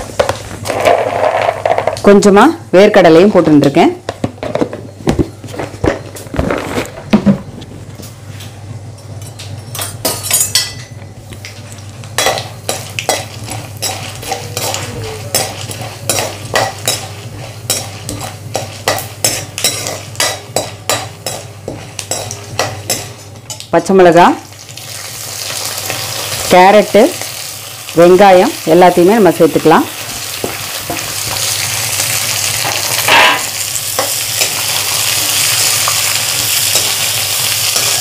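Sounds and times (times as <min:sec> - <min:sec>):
low frying sizzle: 0:00.0 - 0:38.0.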